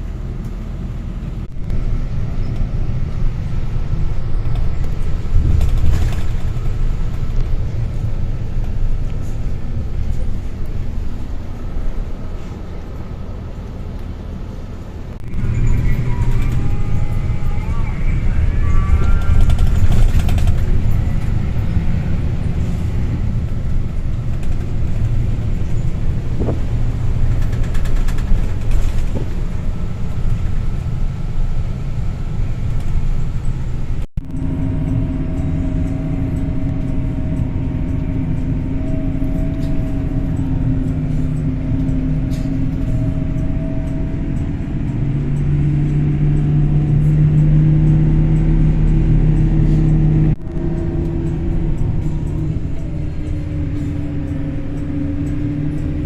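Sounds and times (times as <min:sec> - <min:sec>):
road rumble: 0:00.0 - 0:56.0
vehicle engine running: 0:00.0 - 0:56.0.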